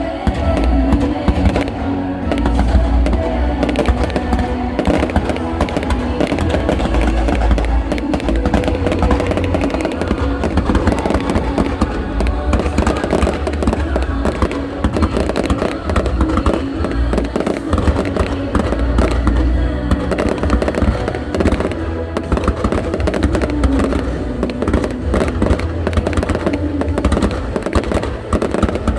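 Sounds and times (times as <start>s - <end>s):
fireworks bangs and crackles: 0.0s - 28.9s
music playing: 0.0s - 28.9s.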